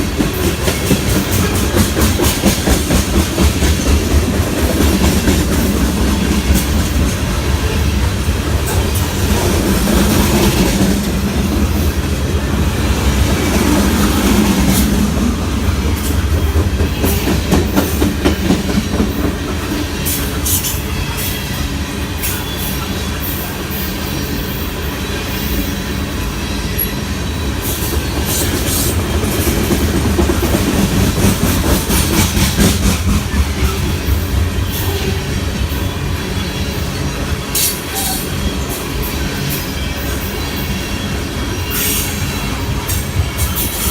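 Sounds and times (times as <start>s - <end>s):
train rumble: 0.0s - 43.9s.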